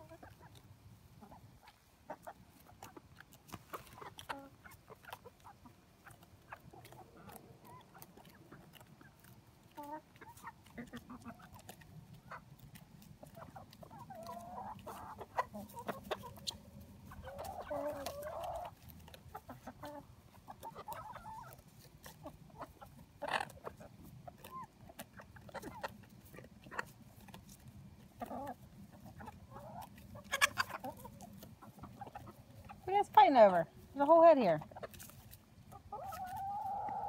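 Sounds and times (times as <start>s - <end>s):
chickens clucking and trilling: 0.0s - 37.0s.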